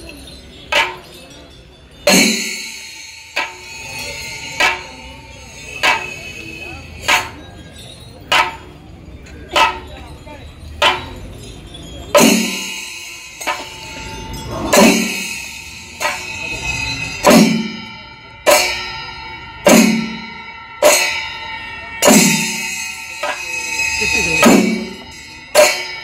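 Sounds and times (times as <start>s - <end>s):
metal bells clanging: 0.0s - 26.0s.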